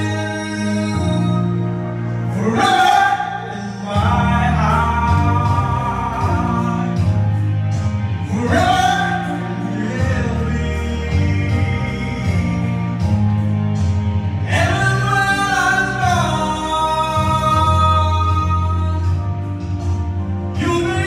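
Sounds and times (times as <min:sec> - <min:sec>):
man singing into microphone: 0:00.0 - 0:07.2, 0:08.2 - 0:13.1, 0:14.4 - 0:19.3, 0:20.5 - 0:21.0
karaoke backing music: 0:00.0 - 0:21.0.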